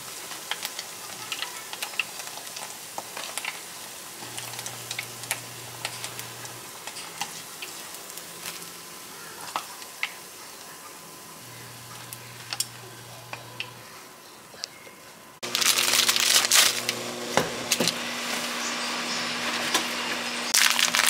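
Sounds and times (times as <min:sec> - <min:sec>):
oil crackling and popping: 0:00.0 - 0:13.8, 0:15.4 - 0:18.6, 0:19.4 - 0:21.0
food sizzling in hot oil: 0:00.0 - 0:14.0, 0:15.4 - 0:21.0.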